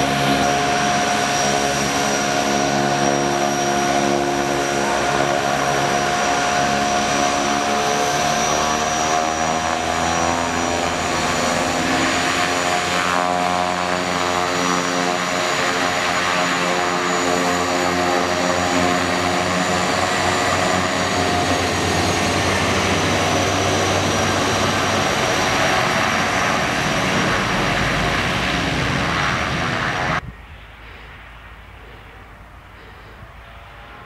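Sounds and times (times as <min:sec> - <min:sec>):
high turbine whine: 0:00.0 - 0:34.0
propeller buzz: 0:00.0 - 0:34.0.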